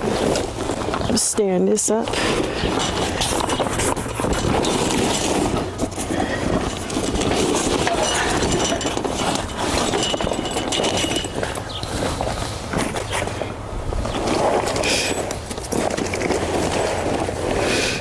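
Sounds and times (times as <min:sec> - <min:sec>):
tent frame rustling and clicking: 0:00.0 - 0:18.0.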